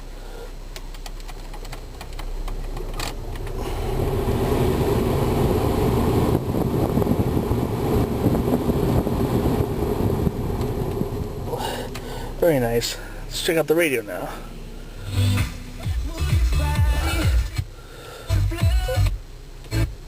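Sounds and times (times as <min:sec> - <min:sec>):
blower fan rushing air: 0:00.0 - 0:18.5.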